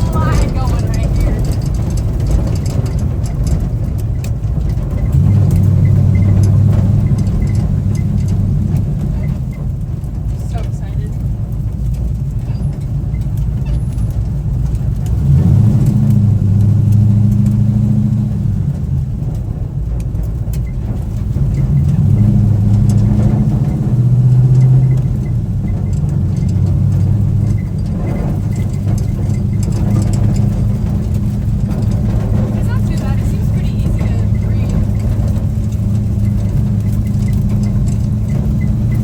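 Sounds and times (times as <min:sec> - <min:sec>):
pickup truck engine revving: 0:00.0 - 0:39.0.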